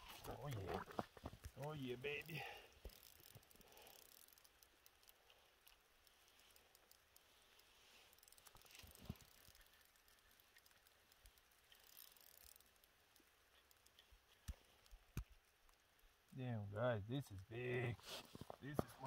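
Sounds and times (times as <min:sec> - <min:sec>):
fishing reel ticking: 0:00.0 - 0:16.3.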